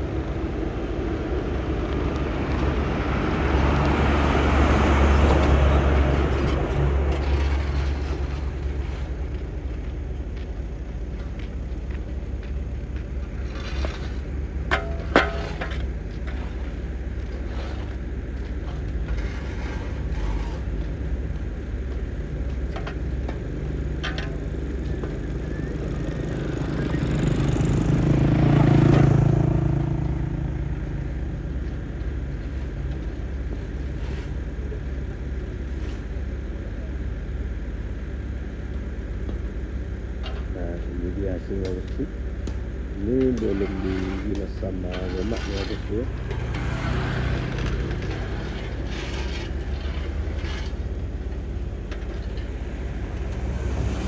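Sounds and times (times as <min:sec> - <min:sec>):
heavy machine engine rumbling: 0:00.0 - 0:54.0.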